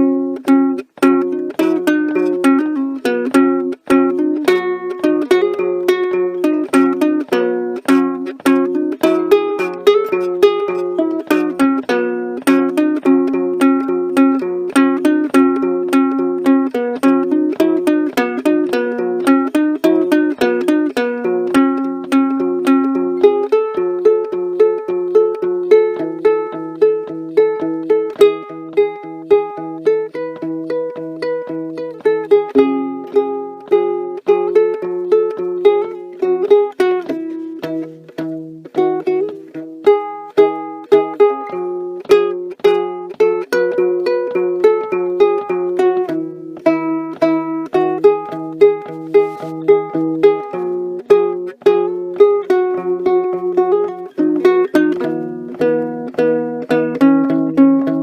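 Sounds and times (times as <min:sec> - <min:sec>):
ukulele strumming chords: 0:00.0 - 0:58.0.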